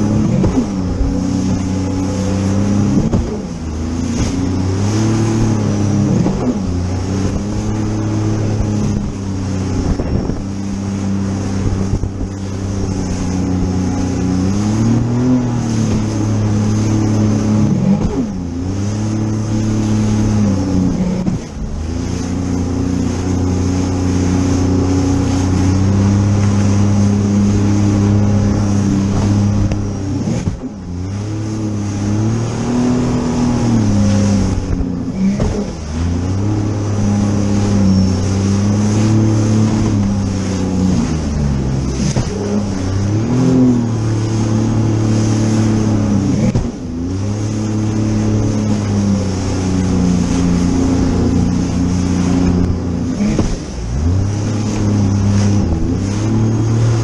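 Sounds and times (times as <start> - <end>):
jet ski engine running: 0.0 - 57.0
wind and spray hiss: 0.0 - 57.0.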